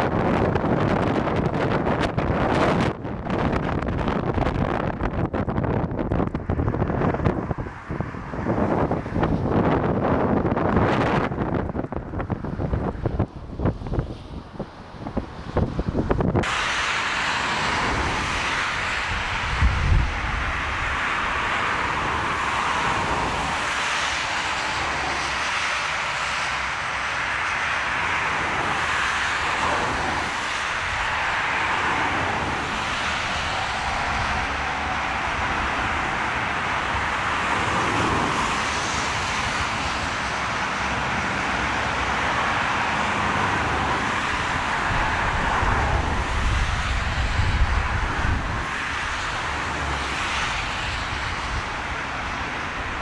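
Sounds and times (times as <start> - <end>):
jet engines roaring: 0.0 - 53.0
wind rumbling on microphone: 0.0 - 53.0.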